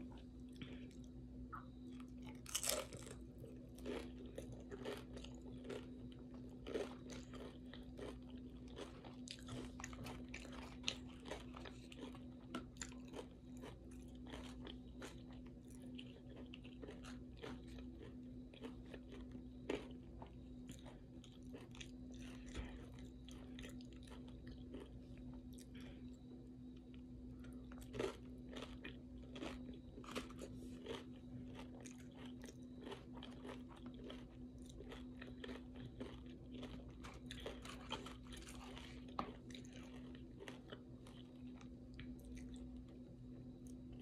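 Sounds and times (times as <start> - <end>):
chewing and crunching chips: 0.0 - 44.0
faint steady hum: 0.0 - 44.0.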